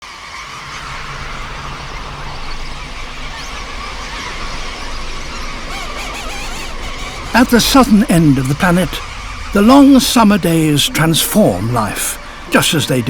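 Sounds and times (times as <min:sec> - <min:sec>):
chorus of birds calling: 0:00.0 - 0:13.0
low hum: 0:00.4 - 0:13.0.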